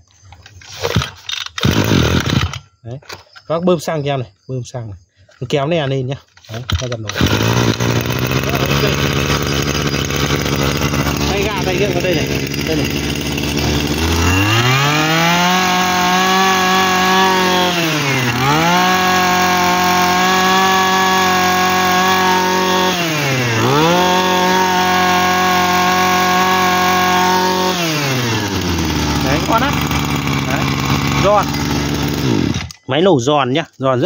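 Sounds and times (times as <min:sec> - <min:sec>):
brush cutter engine revving: 0:00.7 - 0:02.7, 0:06.5 - 0:32.9.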